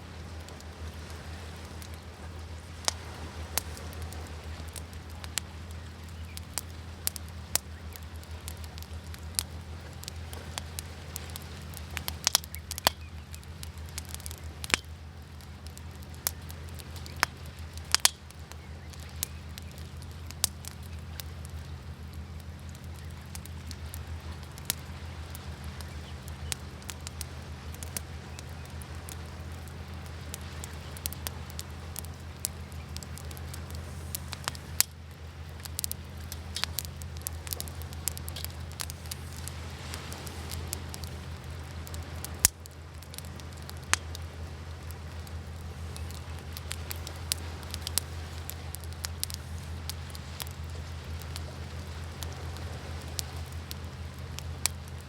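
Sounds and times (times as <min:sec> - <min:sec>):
steady low rumble: 0:00.0 - 0:55.0
wood fire crackling and popping: 0:00.0 - 0:55.0.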